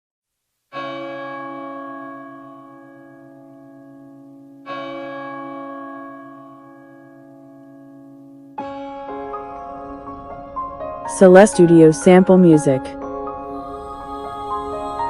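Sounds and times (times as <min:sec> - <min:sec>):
church bell ringing: 0:00.7 - 0:15.0.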